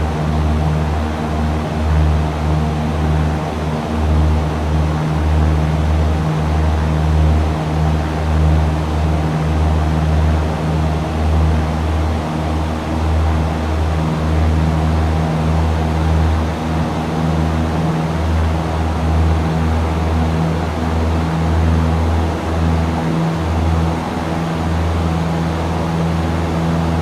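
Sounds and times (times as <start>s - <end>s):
propeller engine droning: 0.0s - 27.0s.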